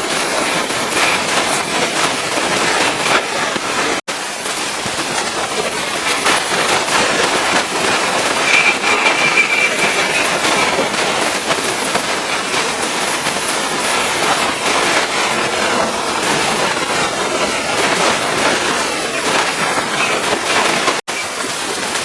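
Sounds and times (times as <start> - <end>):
pressure washer spraying: 0.0 - 22.0.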